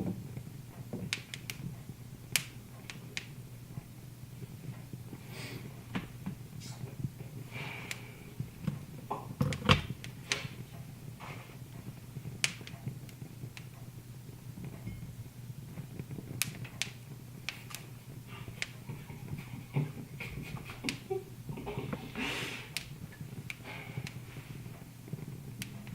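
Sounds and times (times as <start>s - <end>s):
low steady hum: 0.0s - 25.9s
wood fire crackling: 0.0s - 25.9s.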